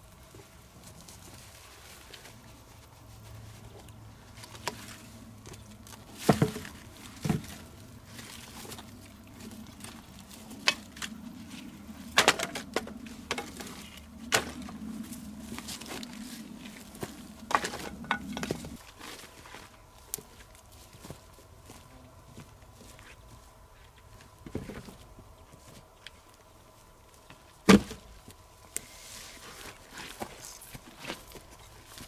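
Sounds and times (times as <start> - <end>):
footsteps in dry grass: 0.0 - 12.1, 13.0 - 27.6, 28.5 - 32.0.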